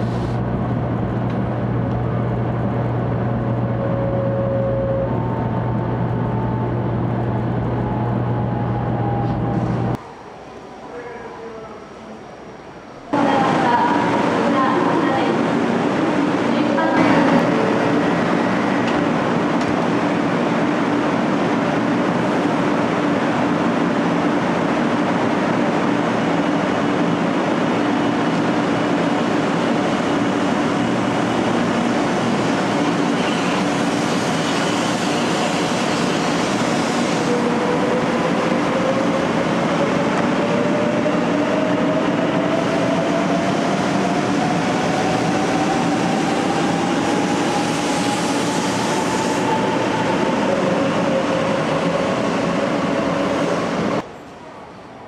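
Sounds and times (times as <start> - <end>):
train running noise: 0.0 - 55.0.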